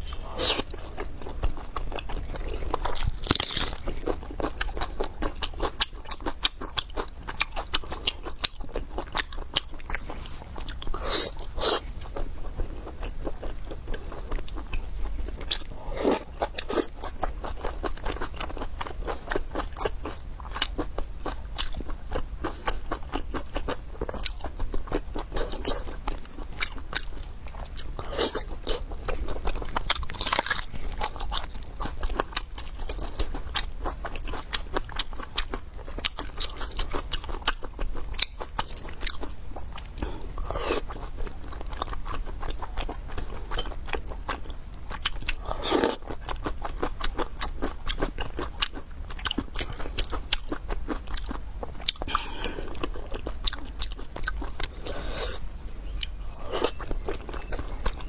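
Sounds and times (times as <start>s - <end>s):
wet chewing and mouth clicks: 0.0s - 58.0s.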